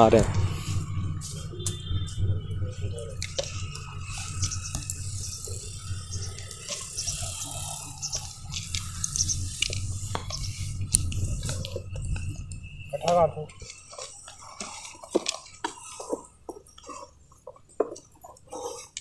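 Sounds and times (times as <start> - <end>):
low steady rumble: 0.0 - 17.4
juice boiling and bubbling: 3.2 - 19.0.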